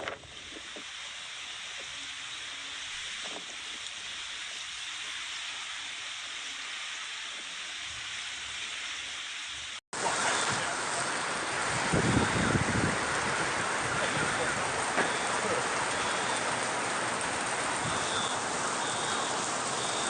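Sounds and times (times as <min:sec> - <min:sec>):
heavy rain: 0:00.0 - 0:20.0
running floodwater: 0:00.0 - 0:20.0.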